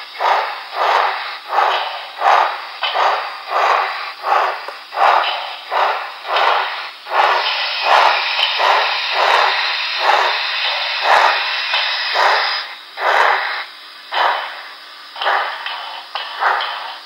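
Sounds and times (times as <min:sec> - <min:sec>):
steady steam hiss: 0:00.0 - 0:17.0
steam locomotive exhaust chuffs: 0:00.0 - 0:17.0.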